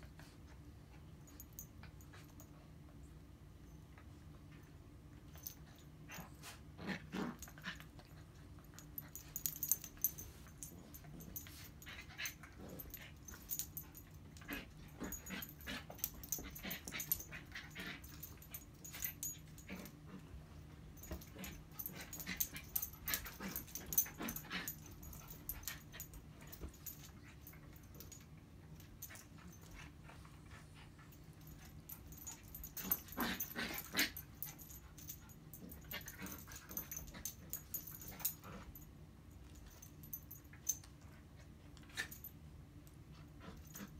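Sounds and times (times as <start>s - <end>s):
small dogs play-fighting: 4.0s - 43.9s.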